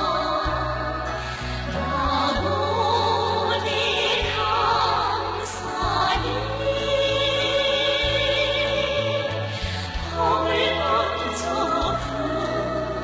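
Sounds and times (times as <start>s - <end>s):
operatic singing: 0.0s - 13.0s.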